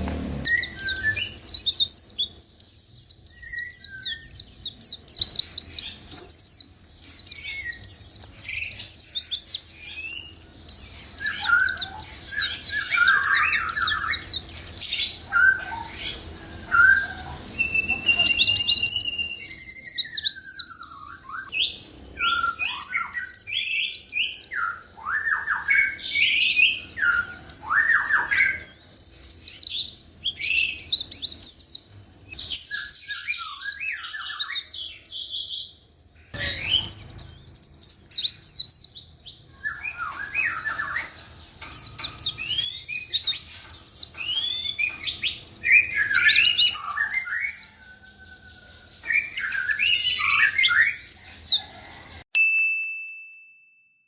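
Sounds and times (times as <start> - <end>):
bird singing rapid high chirps: 0.0 - 52.2.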